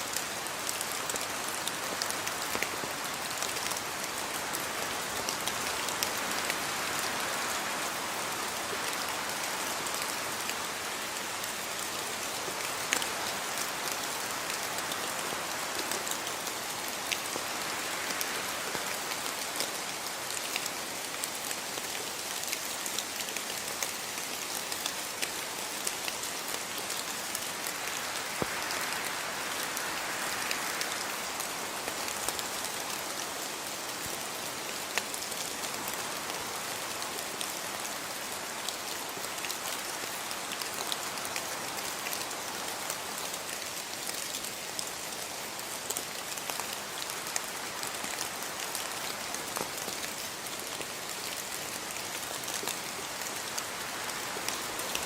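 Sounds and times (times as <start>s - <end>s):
raindrops ticking on a surface: 0.0s - 55.0s
steady rain hiss: 0.0s - 55.0s.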